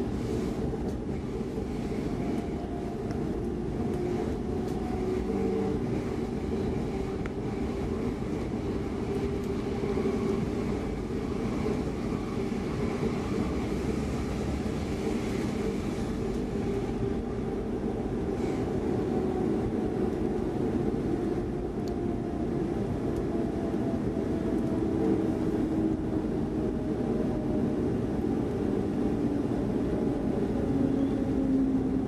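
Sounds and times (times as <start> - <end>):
electric train drive drone: 0.0 - 32.0
train wheels rumbling on rails: 0.0 - 32.0.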